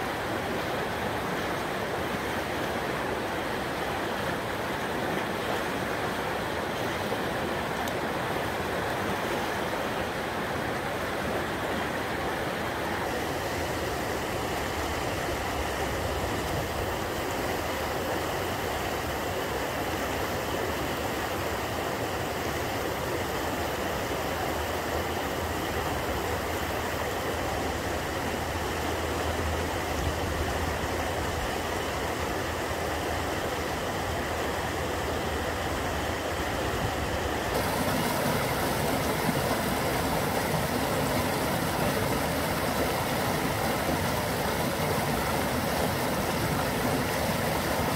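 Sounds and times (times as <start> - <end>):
river rapids rushing: 0.0 - 47.9.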